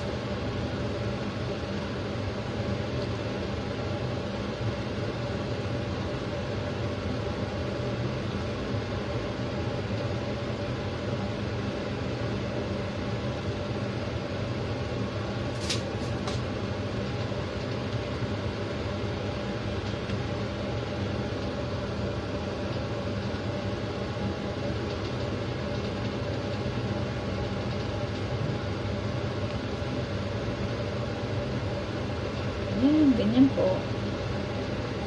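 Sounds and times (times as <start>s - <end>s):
mechanical hum and rumble: 0.0s - 35.0s.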